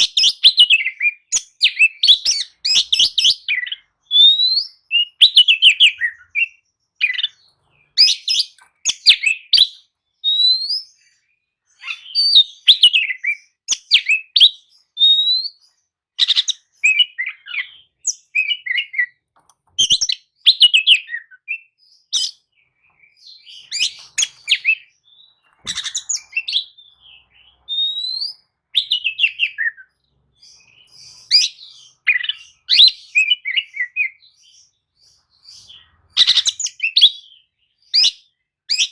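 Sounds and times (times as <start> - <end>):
bird singing whistles and chirps: 0.0 - 38.9.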